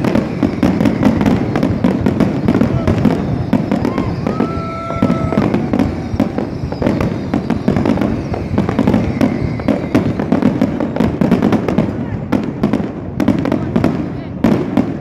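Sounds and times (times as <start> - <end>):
fireworks bursts and crackling: 0.0 - 15.0.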